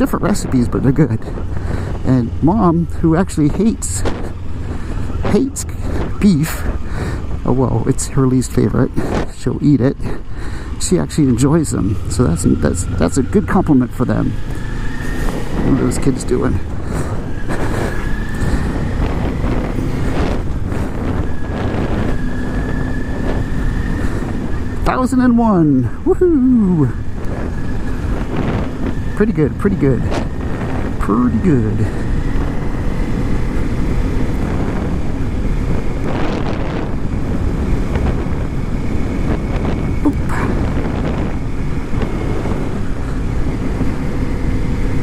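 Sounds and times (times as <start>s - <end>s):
motorcycle running: 0.0s - 45.0s
wind buffeting microphone: 0.0s - 45.0s.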